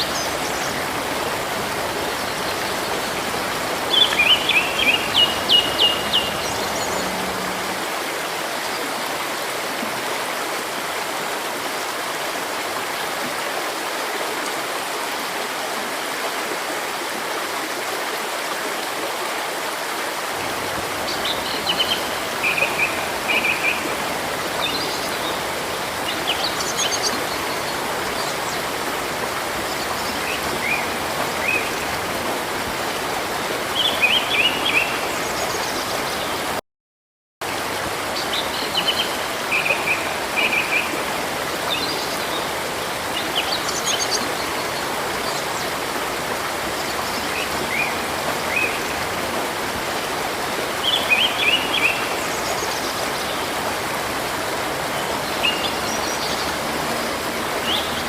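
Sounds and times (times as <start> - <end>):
river water running: 0.0 - 36.6, 37.4 - 58.0.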